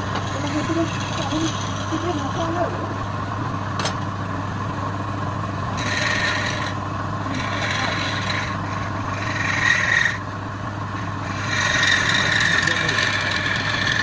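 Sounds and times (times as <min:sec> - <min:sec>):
tool rubbing spinning wood: 0:00.0 - 0:03.1, 0:05.6 - 0:14.0
lathe motor hum: 0:00.0 - 0:14.0.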